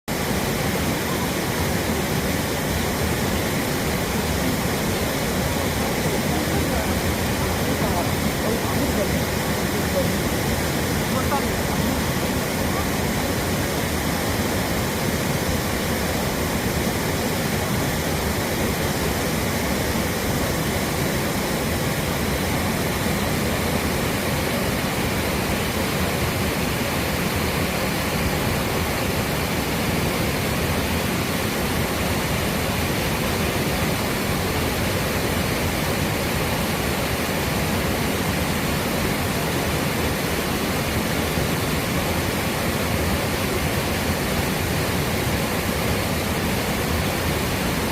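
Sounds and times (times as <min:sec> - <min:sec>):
waterfall roaring: 0:00.1 - 0:47.9.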